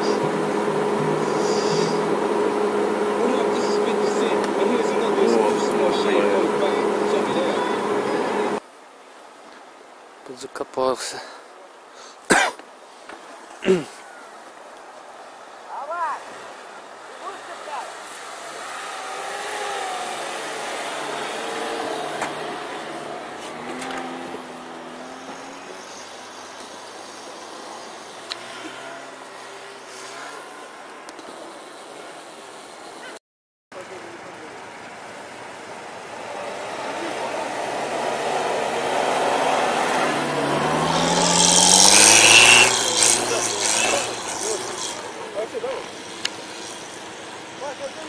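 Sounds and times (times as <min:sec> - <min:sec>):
car engine under load: 0:00.0 - 0:08.6, 0:16.2 - 0:32.0, 0:33.8 - 0:48.0
tyres churning through snow: 0:00.0 - 0:08.6, 0:15.7 - 0:32.2, 0:33.9 - 0:48.0.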